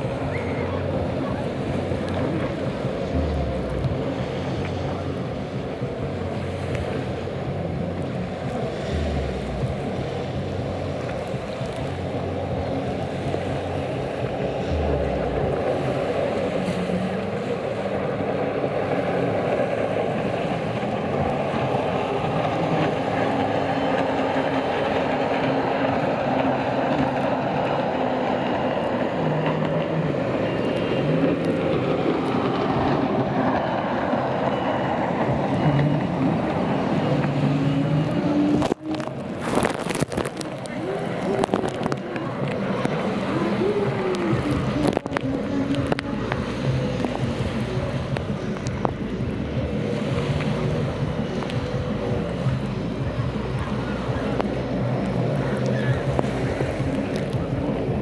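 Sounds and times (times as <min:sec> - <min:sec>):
jet ski engine drone: 0:00.0 - 0:58.0
rushing water: 0:00.0 - 0:58.0.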